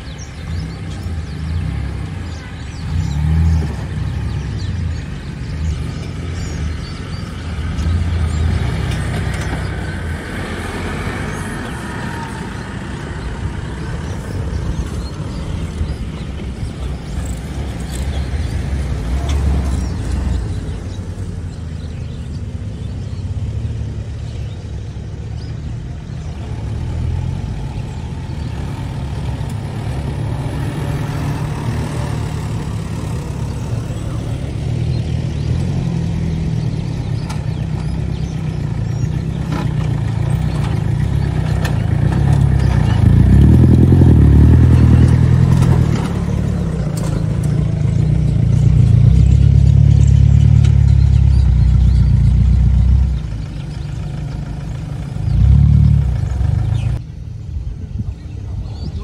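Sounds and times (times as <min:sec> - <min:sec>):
suv engines driving slowly: 0:00.0 - 0:59.0.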